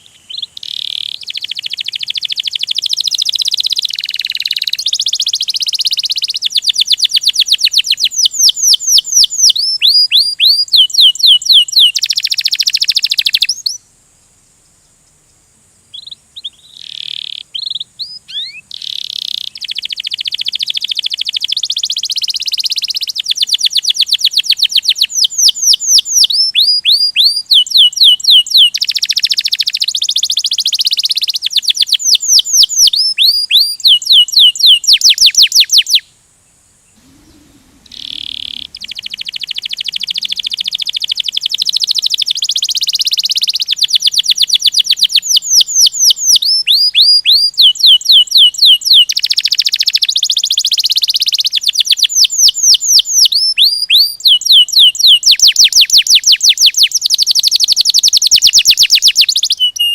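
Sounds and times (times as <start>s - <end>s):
canary singing: 0.0s - 13.8s, 15.9s - 36.1s, 36.9s - 59.9s.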